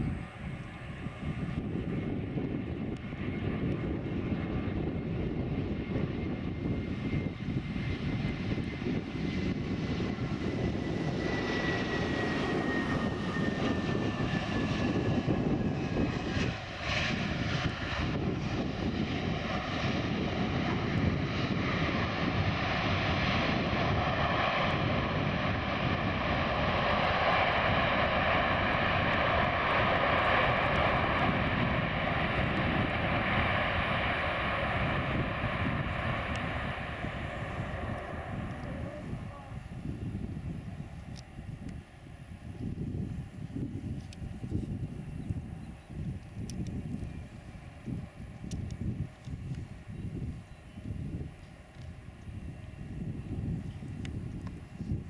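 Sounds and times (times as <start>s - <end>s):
high jet fan whine: 0.0s - 55.0s
jet airliner roar: 0.0s - 55.0s.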